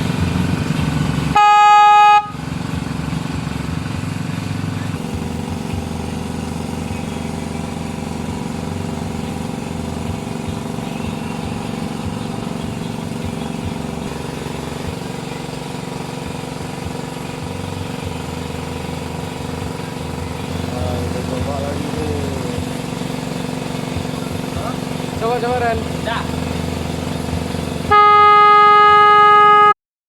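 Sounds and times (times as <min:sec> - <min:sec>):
diesel engine idling: 0:00.0 - 0:29.8.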